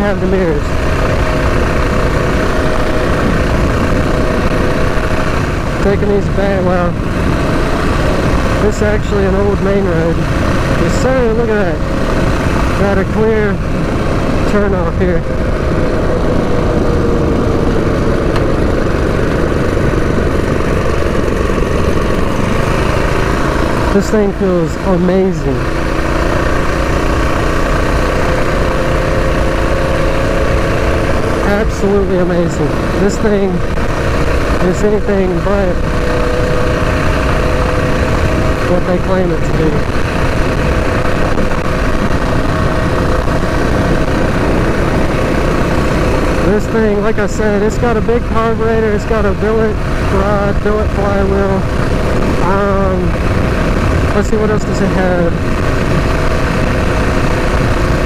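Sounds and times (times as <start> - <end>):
mini bike engine running: 0.0 - 58.0.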